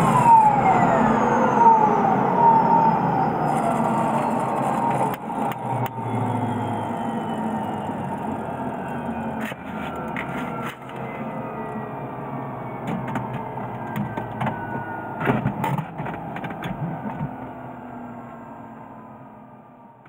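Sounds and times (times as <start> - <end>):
turboprop engine whine: 0.0 - 20.0.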